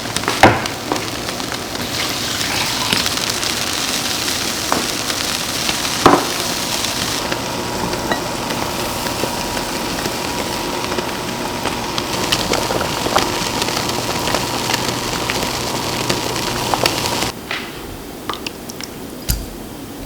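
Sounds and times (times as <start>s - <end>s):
food sizzling in a hot pan: 0.0s - 17.4s.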